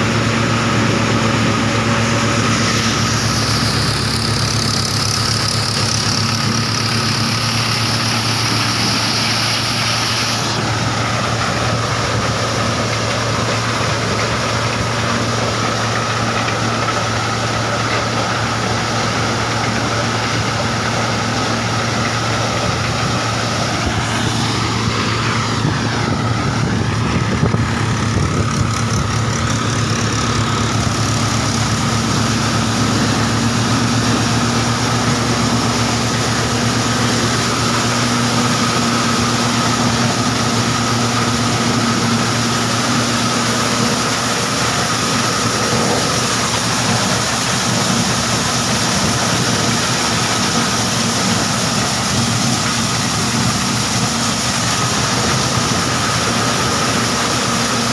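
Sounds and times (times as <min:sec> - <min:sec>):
thresher high whine: 0:00.0 - 0:57.9
thresher rushing noise: 0:00.0 - 0:57.9
tractor diesel engine drone: 0:00.0 - 0:57.9.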